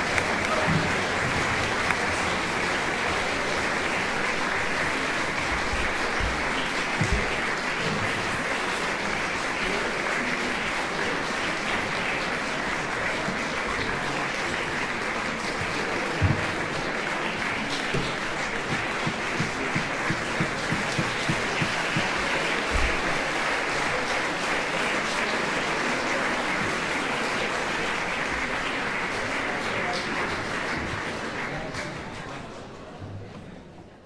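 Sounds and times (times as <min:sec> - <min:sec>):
audience applauding: 0:00.0 - 0:32.7.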